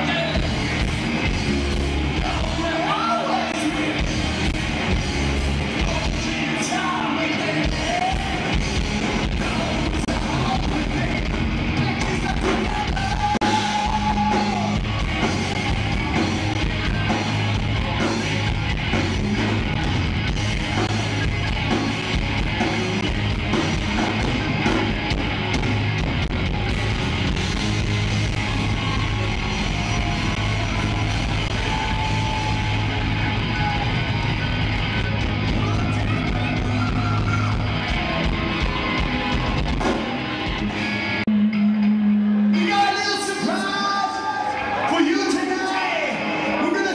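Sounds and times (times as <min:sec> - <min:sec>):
bass guitar: 0:00.0 - 0:42.9
drums: 0:00.0 - 0:46.9
electric guitars: 0:00.0 - 0:46.9.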